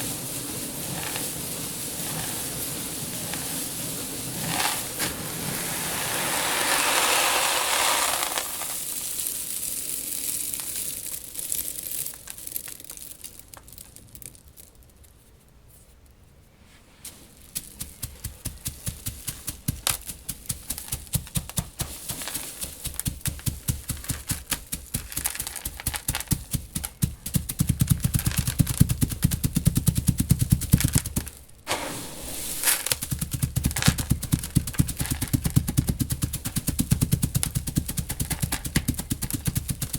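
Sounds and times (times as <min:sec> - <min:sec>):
seed pouring with hissing rush: 0:00.0 - 0:14.2, 0:16.9 - 0:39.9.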